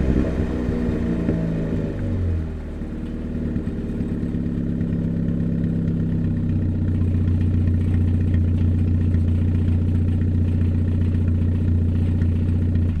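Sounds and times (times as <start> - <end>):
car engine with damaged muffler: 0.0 - 13.0.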